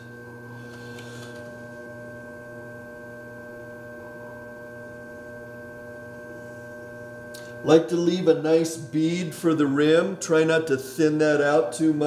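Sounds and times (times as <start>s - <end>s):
potter's wheel motor humming: 0.0s - 12.0s.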